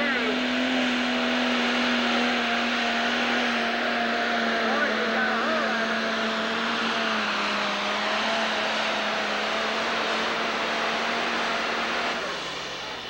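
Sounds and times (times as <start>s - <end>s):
diesel engine at full throttle: 0.0s - 13.0s.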